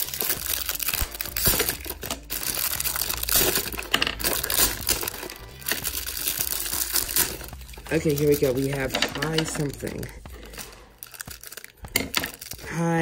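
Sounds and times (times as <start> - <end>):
plastic wrappers crinkling: 0.0 - 12.9.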